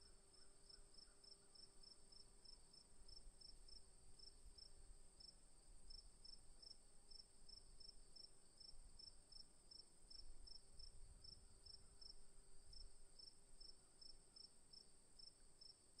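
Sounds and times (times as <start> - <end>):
continuous high cricket trill: 0.0 - 16.0
cricket chirps: 0.0 - 16.0.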